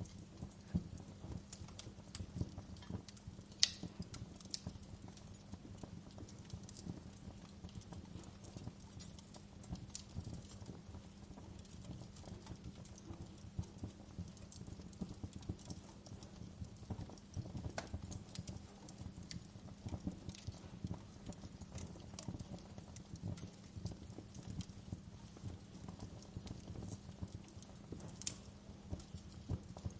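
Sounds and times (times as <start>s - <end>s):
fire crackling: 0.0s - 29.9s.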